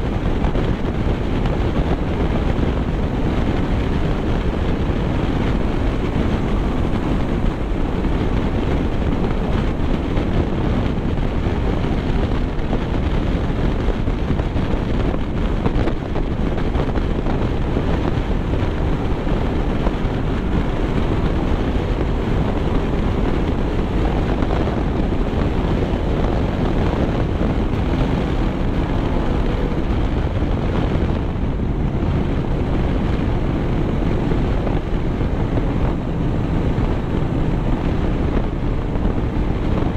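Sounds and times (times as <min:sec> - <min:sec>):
vehicle road noise: 0:00.0 - 0:39.9
wind buffeting microphone: 0:00.0 - 0:39.9.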